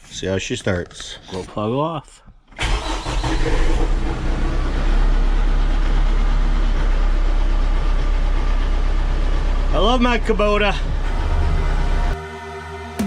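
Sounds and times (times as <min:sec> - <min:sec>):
tractor diesel engine starting: 0:02.5 - 0:13.0.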